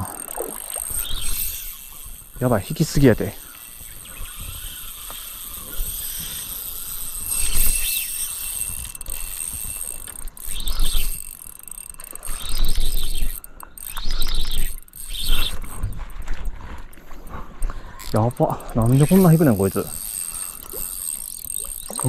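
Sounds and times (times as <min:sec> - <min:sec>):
fishing reel drag clicking: 0:00.0 - 0:22.0.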